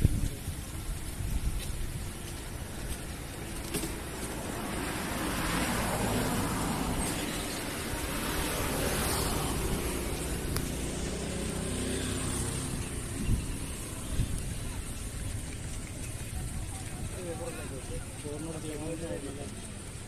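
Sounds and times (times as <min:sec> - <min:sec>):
traffic passing by: 0:00.0 - 0:20.0.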